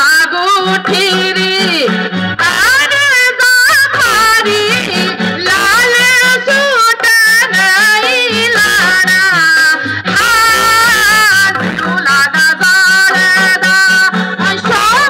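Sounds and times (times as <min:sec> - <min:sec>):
instrumental backing with bass line: 0:00.0 - 0:15.0
woman singing folk melody: 0:00.0 - 0:15.0.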